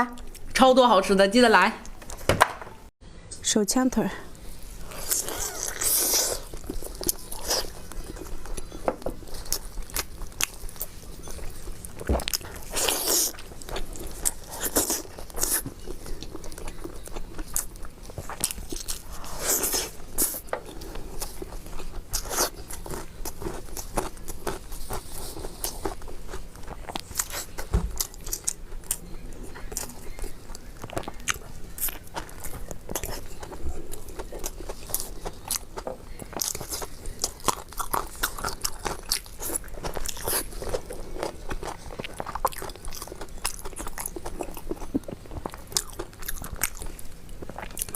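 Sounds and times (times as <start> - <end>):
crisp chewing: 4.8 - 47.9.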